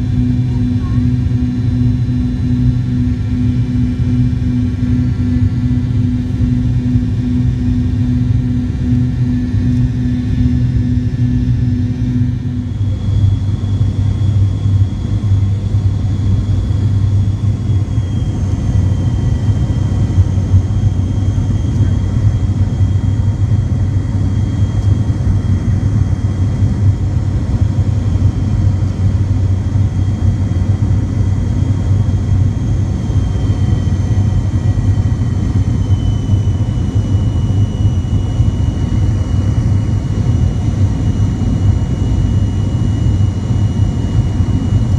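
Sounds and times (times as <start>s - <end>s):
airplane cabin rumble: 0.0s - 44.9s
high engine whine: 0.0s - 44.9s.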